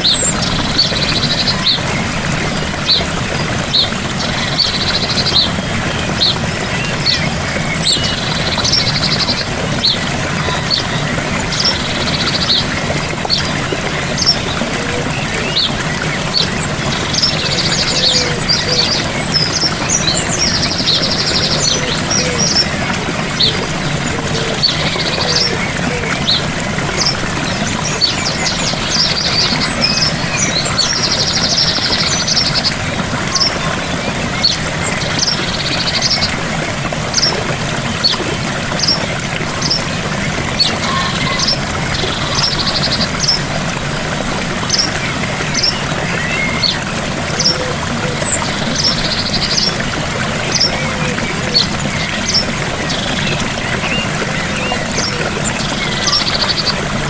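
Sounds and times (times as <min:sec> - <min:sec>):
birds chirping: 0:00.0 - 0:57.0
waterfall rushing: 0:00.0 - 0:57.0.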